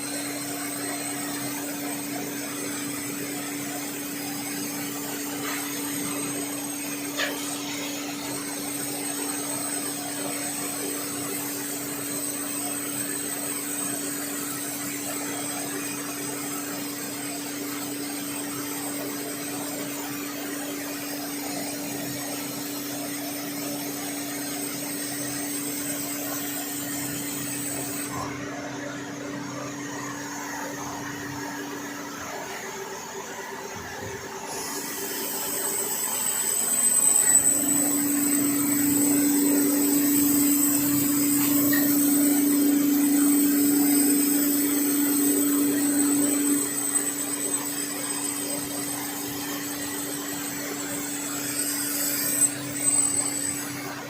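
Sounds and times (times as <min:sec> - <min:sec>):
lathe cutting metal: 0:00.0 - 0:28.4, 0:34.2 - 0:54.0
lathe machine hum: 0:00.0 - 0:54.0.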